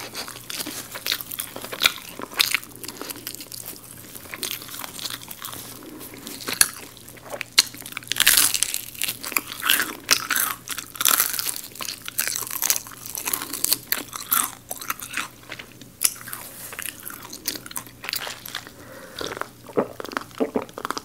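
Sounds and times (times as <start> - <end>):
crunching crispy fried chicken: 0.0 - 21.0.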